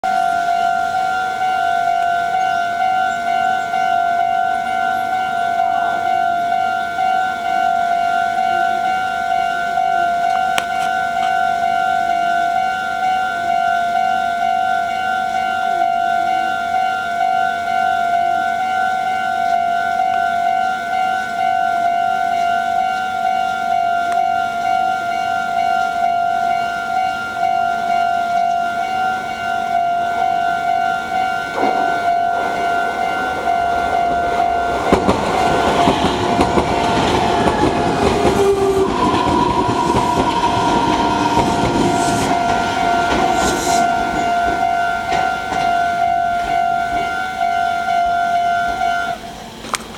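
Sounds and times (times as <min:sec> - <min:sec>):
level crossing warning bell ringing: 0:00.0 - 0:49.6.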